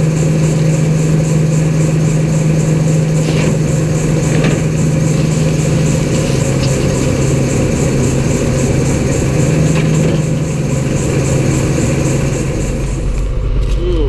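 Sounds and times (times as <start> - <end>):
heavy engine running: 0.0 - 14.0
high ticking: 1.1 - 14.0.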